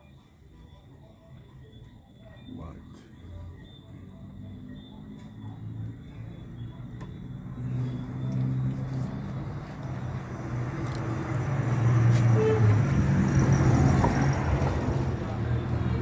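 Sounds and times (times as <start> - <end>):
road noise: 0.0 - 16.0
car engine humming: 2.5 - 16.0.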